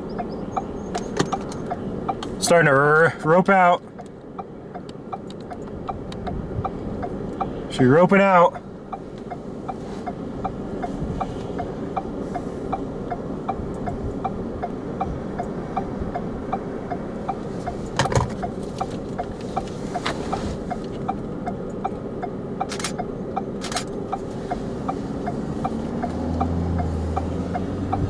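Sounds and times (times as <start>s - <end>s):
even ticking: 0.0s - 2.7s, 3.4s - 28.0s
vehicle engine idling: 0.0s - 28.0s.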